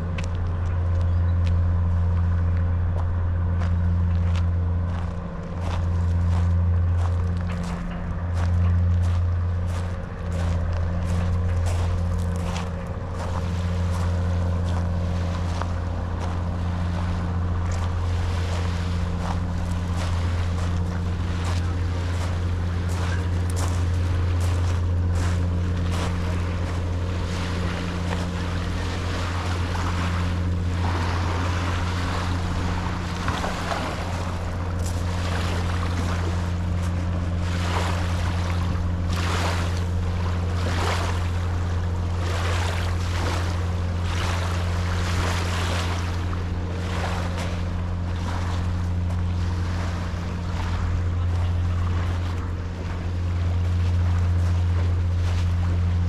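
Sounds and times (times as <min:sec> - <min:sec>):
steady low hum: 0:00.0 - 0:56.0
small waves washing onto beach: 0:03.6 - 0:56.0.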